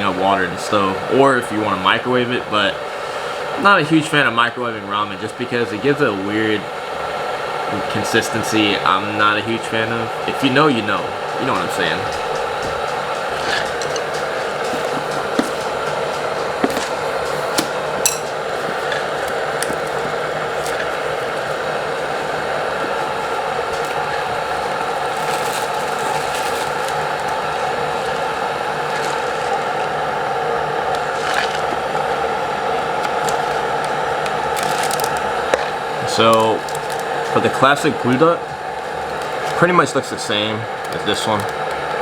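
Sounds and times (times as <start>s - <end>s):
electric kettle hissing: 0.0s - 42.0s.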